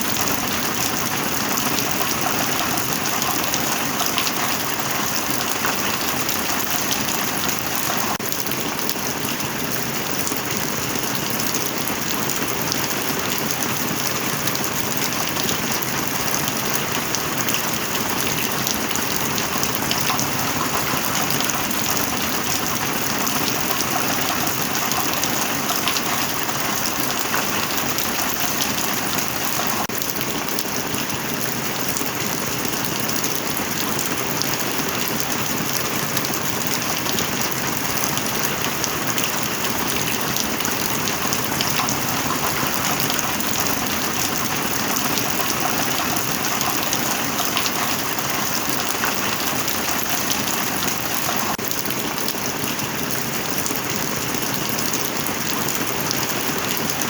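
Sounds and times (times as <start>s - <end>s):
heavy rain patter: 0.0s - 57.0s.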